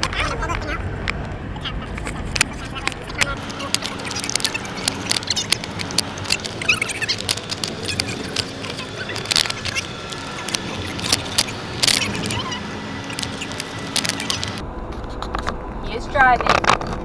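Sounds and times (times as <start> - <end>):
road noise inside moving car: 0.0 - 17.0.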